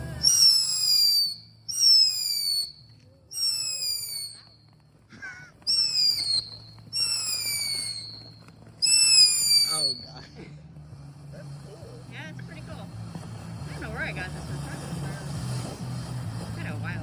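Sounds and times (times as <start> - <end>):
whistling firework: 0.0 - 10.2, 10.9 - 17.0.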